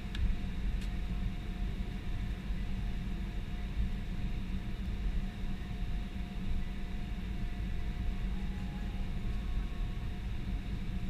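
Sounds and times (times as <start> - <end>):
aircraft cabin rumble: 0.0 - 11.0
faint steady whine: 0.0 - 11.0.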